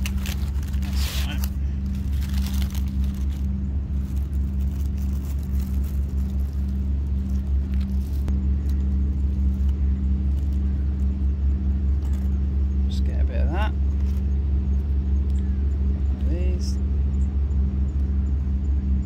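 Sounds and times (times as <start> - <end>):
motor droning: 0.0 - 19.0.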